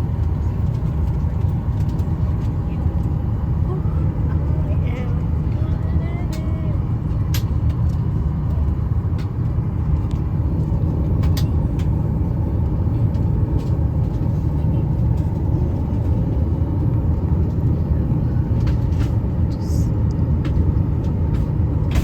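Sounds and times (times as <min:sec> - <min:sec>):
airliner cabin low rumble: 0:00.0 - 0:22.0.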